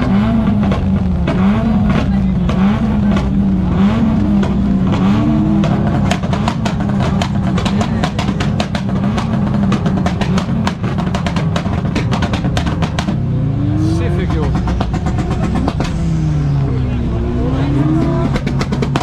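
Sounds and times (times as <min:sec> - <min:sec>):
car engine running: 0:00.0 - 0:19.0
exhaust popping and crackling: 0:00.0 - 0:19.0.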